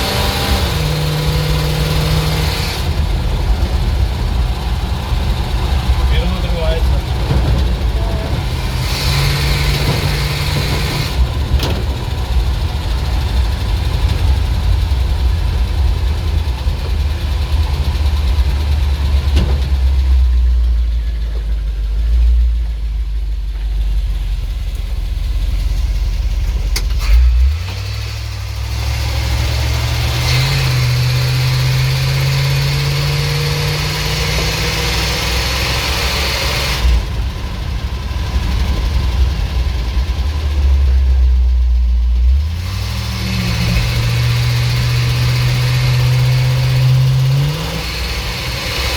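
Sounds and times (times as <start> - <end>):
truck engine idling: 0.0 - 33.0, 34.1 - 48.9.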